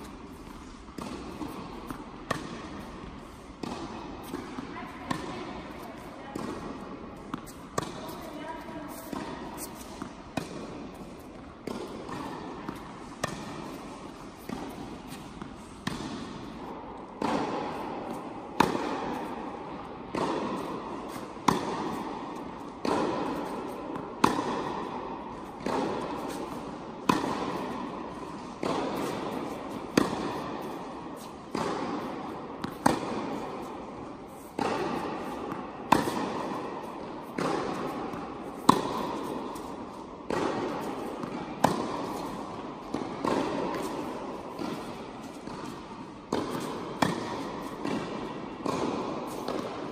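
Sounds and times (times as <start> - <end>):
rackets hitting tennis ball: 0.0 - 49.9
tennis ball bouncing: 0.0 - 49.9.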